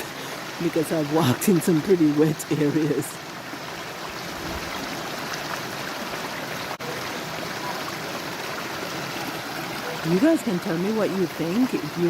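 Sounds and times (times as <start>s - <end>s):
stream water running over rocks: 0.0s - 12.0s.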